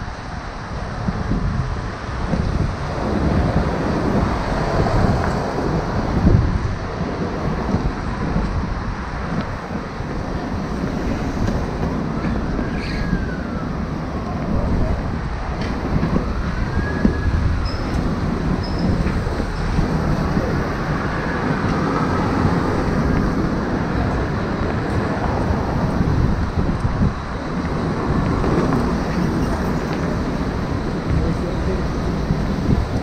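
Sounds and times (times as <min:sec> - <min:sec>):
road traffic: 0:00.0 - 0:33.0
wind noise: 0:00.0 - 0:33.0.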